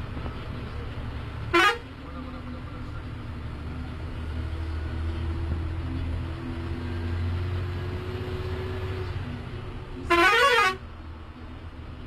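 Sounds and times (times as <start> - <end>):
bus engine hum: 0.0 - 12.0.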